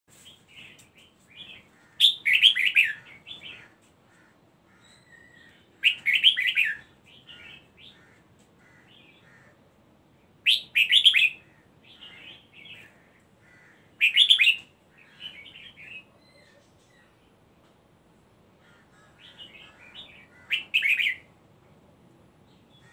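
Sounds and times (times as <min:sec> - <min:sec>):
bird song phrases: 0:00.2 - 0:17.4, 0:18.6 - 0:21.3, 0:22.4 - 0:22.9.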